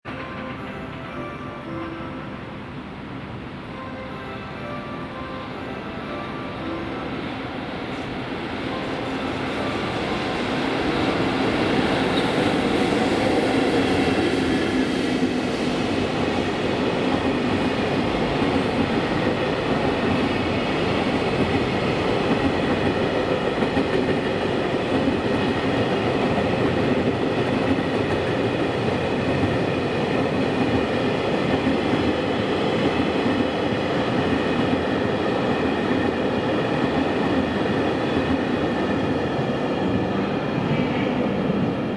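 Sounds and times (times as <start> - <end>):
high tones from train wheels: 0.1 - 41.9
train wheels rumbling on rails: 7.2 - 41.9.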